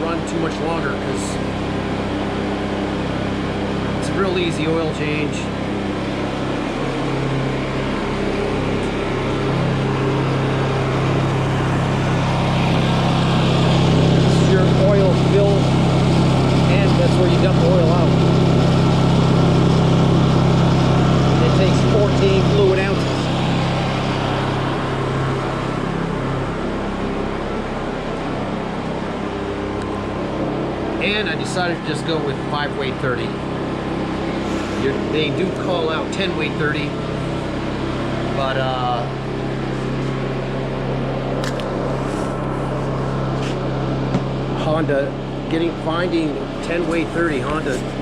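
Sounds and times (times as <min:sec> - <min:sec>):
portable generators running: 0:00.0 - 0:48.0.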